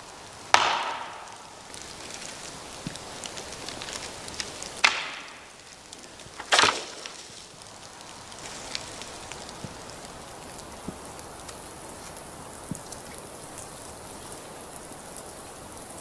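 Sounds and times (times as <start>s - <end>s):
firewood cracking: 0.0s - 16.0s
light snaps and ticks: 1.3s - 16.0s.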